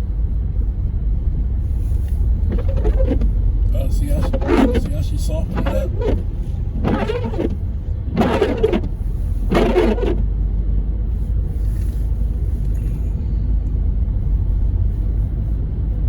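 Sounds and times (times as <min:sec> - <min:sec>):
car road rumble inside cabin: 0:00.0 - 0:16.0.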